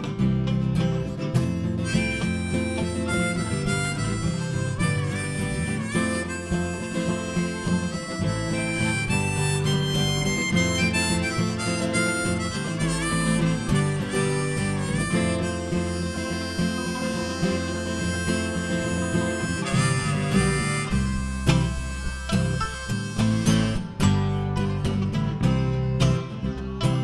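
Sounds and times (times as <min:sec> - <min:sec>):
electric guitar: 0:00.0 - 0:27.0
mandolin: 0:00.0 - 0:27.0
strummed acoustic guitar: 0:00.0 - 0:27.0
harmonica solo: 0:01.7 - 0:24.7.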